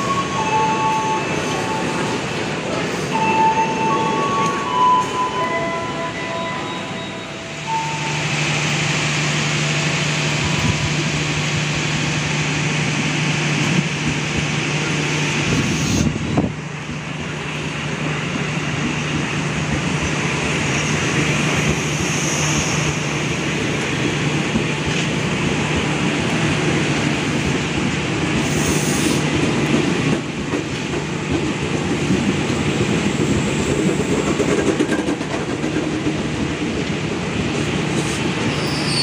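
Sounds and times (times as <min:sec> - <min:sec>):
train wheels rolling on rails: 0:00.0 - 0:39.0.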